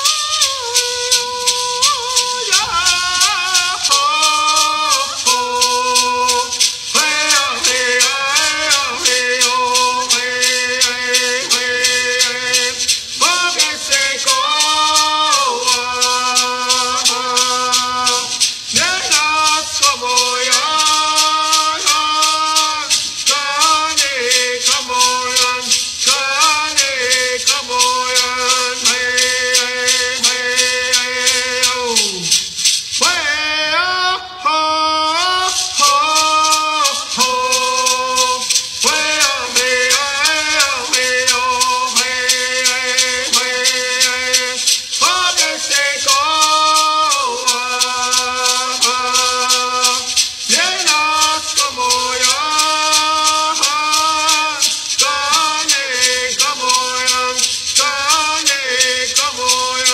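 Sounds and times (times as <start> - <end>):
hand rattle shaken: 0.0 - 59.9.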